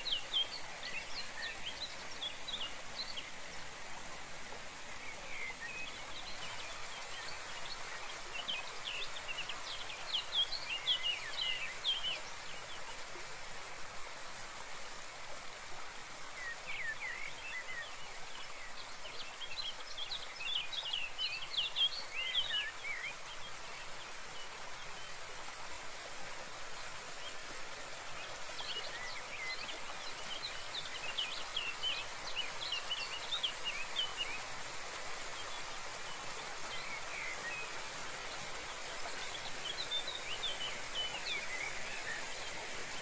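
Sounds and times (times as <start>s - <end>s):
small birds chirping: 0.0s - 12.9s, 16.3s - 43.0s
rush of running water: 0.0s - 43.0s.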